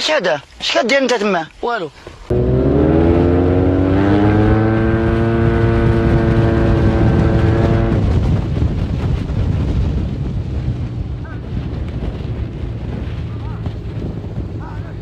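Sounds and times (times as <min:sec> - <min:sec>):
wind and road noise: 0:00.0 - 0:15.0
motorcycle engine accelerating: 0:02.3 - 0:14.8.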